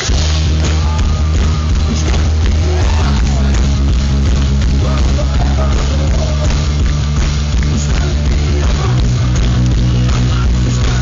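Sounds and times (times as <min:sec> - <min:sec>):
rock band playing live: 0:00.0 - 0:11.0.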